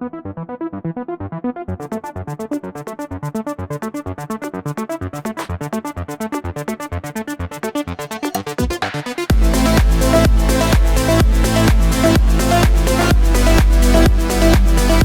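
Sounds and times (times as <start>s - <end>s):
electronic music with fast beat: 1.8s - 15.0s.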